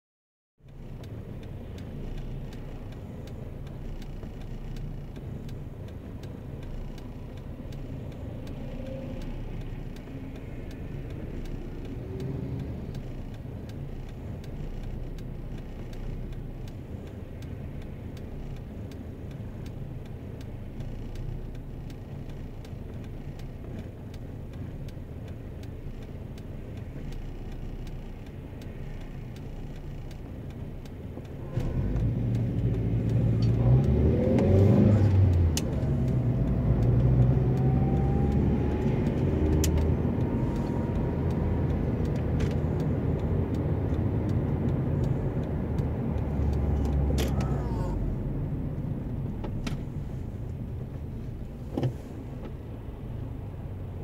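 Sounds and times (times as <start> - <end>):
car engine idling: 0.6 - 54.0
faint regular ticking: 0.6 - 54.0
traffic passing: 0.6 - 54.0.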